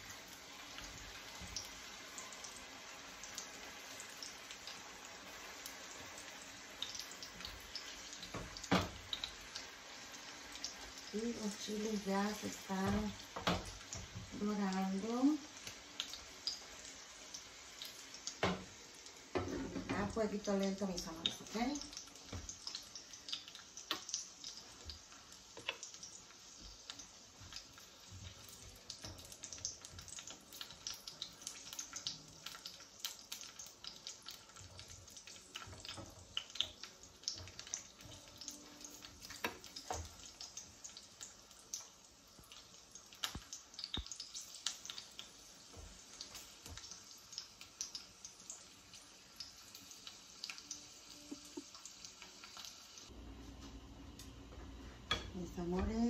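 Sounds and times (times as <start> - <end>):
oil sizzling with crackles: 0.0 - 56.0.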